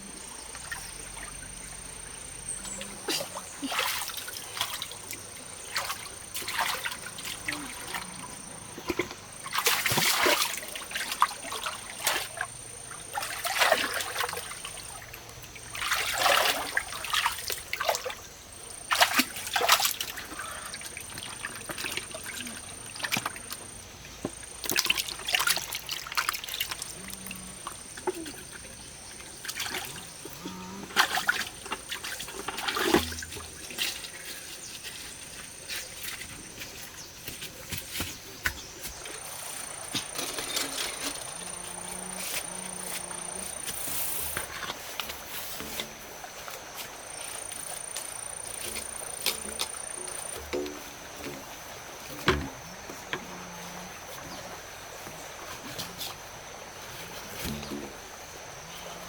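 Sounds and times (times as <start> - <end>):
water splashing and trickling: 0.0 - 59.0.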